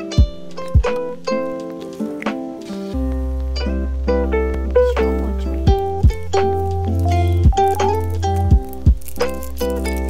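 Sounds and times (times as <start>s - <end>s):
plucked-string tune: 0.0s - 10.0s.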